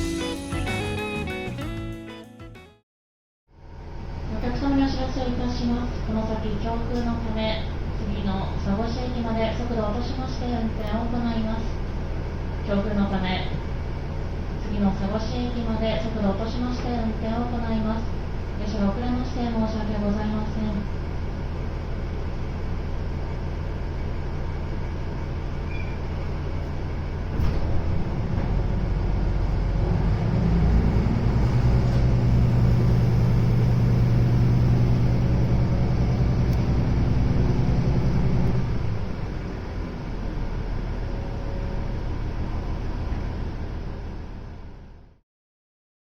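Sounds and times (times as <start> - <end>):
diesel railcar engine drone: 3.5 - 45.2.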